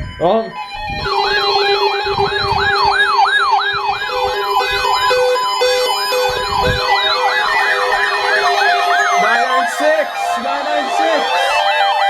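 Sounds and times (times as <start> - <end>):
steady alarm tones: 0.0 - 12.0
siren-like falling sweep: 0.6 - 12.0.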